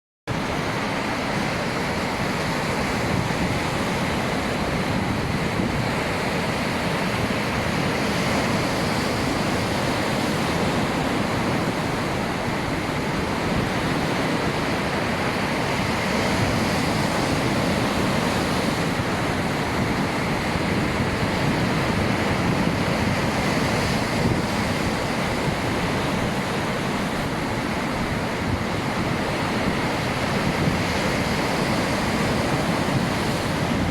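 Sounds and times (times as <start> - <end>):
ocean waves breaking: 0.3 - 33.9.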